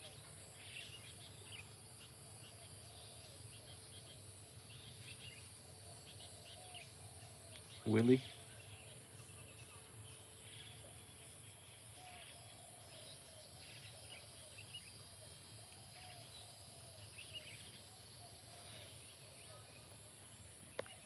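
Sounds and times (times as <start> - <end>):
bird chirps: 0.0 - 21.0.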